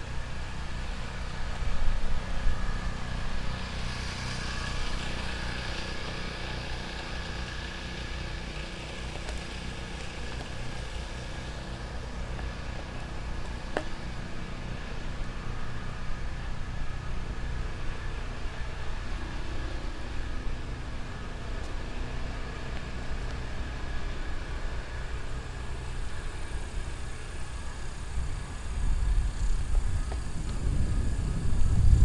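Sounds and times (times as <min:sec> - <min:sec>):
electric motor whine: 0:00.0 - 0:32.0
wheel rolling rumble: 0:00.0 - 0:32.0.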